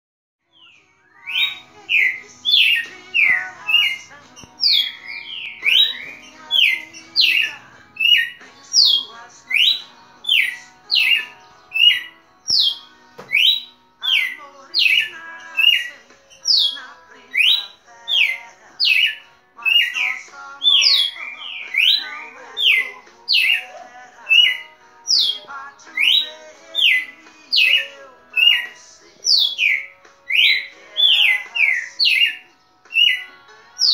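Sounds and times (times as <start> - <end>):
bird singing whistled notes: 0.5 - 33.9.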